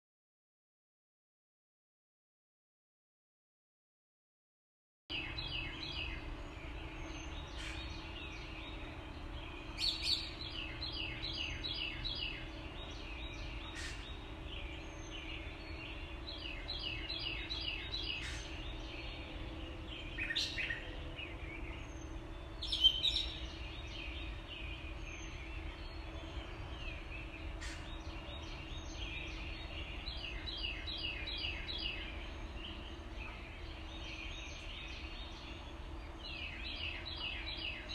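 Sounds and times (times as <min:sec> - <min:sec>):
songbirds chirping: 0:05.1 - 0:37.9.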